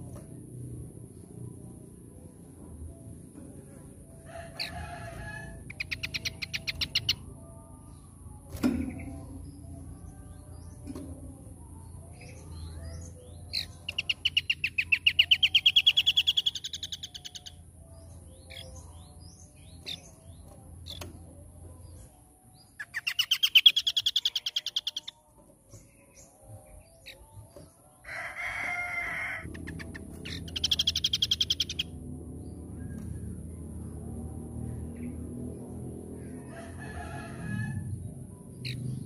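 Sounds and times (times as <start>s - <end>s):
bird singing rapid rising notes: 4.4s - 39.0s.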